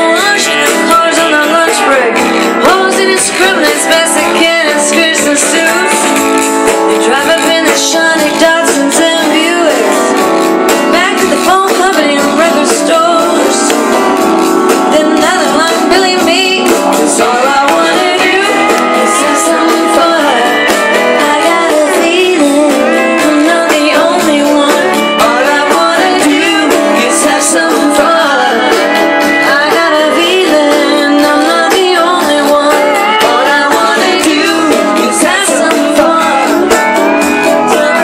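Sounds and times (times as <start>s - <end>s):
band playing guitar and drums: 0.0s - 38.0s
woman singing: 0.0s - 38.0s.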